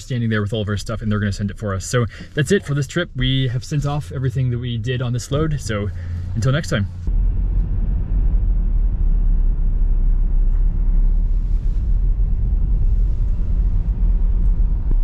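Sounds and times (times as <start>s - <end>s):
road and engine rumble in van: 0.0s - 15.0s.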